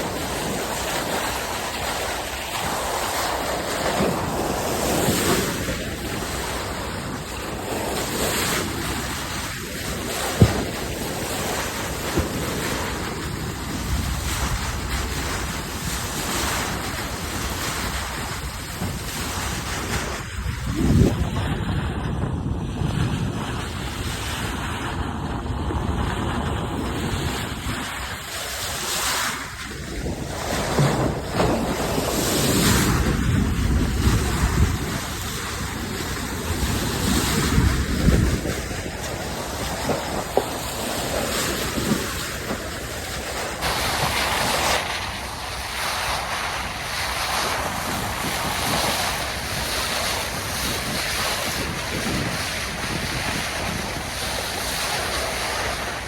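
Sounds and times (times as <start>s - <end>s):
sea water rushing along ship bow: 0.0s - 56.0s
wind buffeting microphone: 0.0s - 56.0s.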